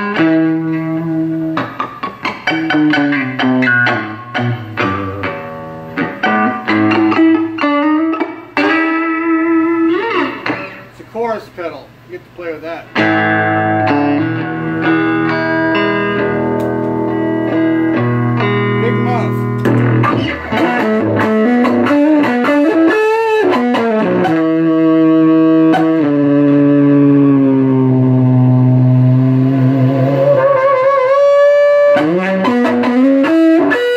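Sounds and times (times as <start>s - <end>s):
electric guitar notes: 0.0s - 33.9s.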